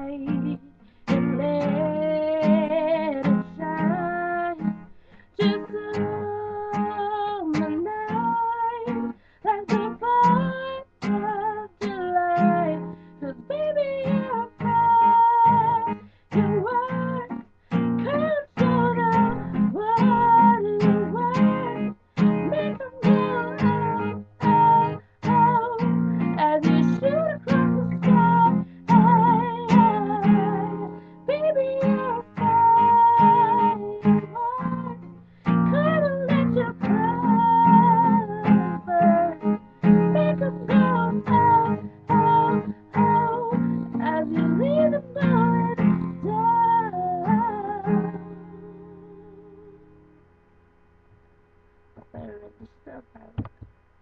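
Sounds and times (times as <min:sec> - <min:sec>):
woman singing: 0:00.0 - 0:49.9
strummed guitar: 0:00.0 - 0:50.5.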